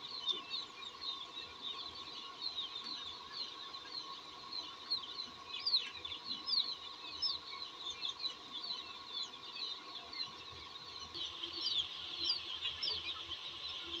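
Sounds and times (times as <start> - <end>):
chicks peeping: 0.2 - 14.0.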